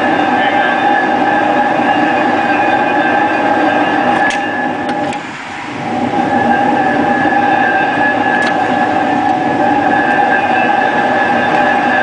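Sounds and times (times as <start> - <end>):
electric locomotive motor whining: 0.0 - 12.0.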